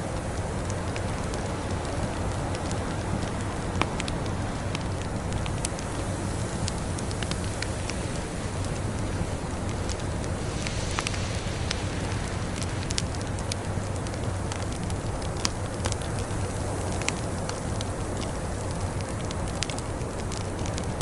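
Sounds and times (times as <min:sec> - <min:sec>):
blizzard wind rushing: 0:00.0 - 0:21.0
wood fire crackling: 0:00.0 - 0:21.0.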